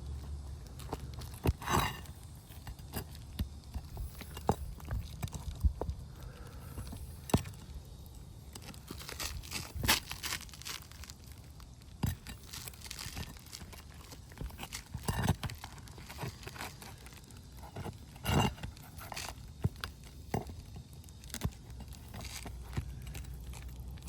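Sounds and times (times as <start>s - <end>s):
roof shingles scraping and crunching: 0.0s - 24.0s.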